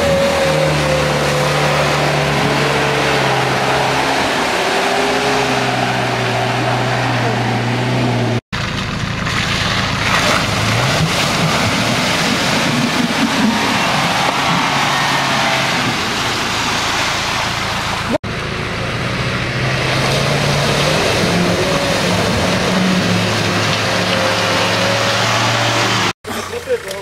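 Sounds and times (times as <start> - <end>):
mud and water splashing: 0.0 - 27.0
off-road engines revving in mud: 0.0 - 27.0.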